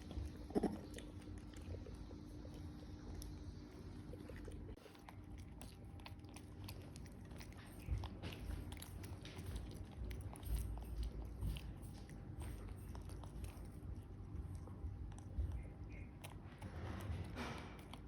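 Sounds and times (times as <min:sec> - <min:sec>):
monkey chewing and biting: 0:00.0 - 0:18.0.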